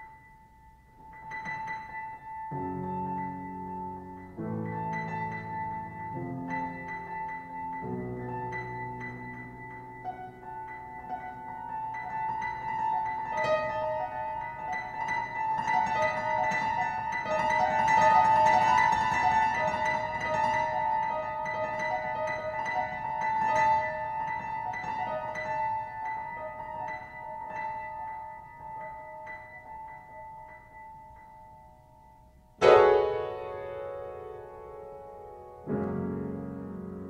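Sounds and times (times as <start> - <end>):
solo piano playing: 0.0 - 37.0.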